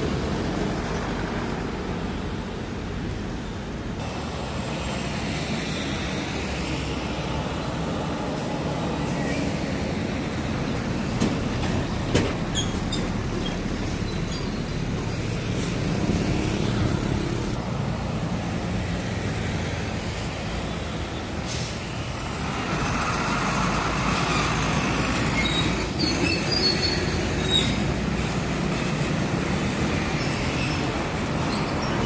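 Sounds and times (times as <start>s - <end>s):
diesel truck engine rumble: 0.0s - 32.0s.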